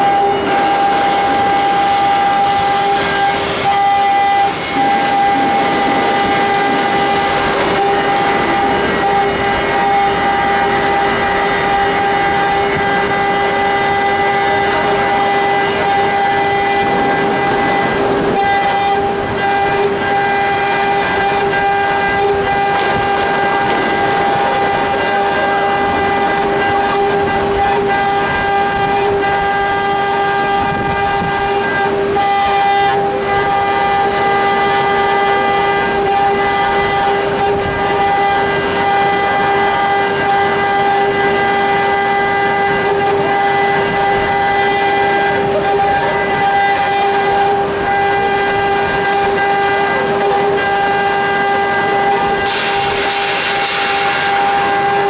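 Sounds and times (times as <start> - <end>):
cutter engraving metal: 0.0 - 55.0
router spindle whining: 0.0 - 55.0.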